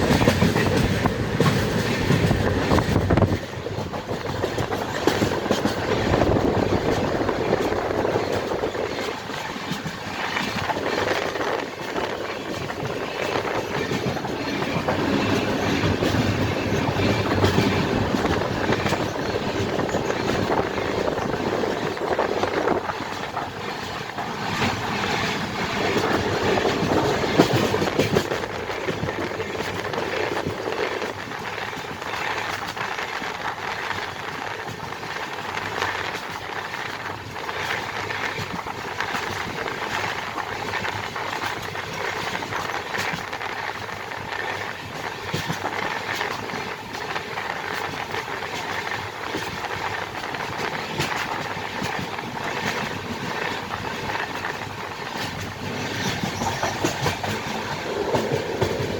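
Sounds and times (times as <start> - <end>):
train wheels rushing on rails: 0.0 - 58.9.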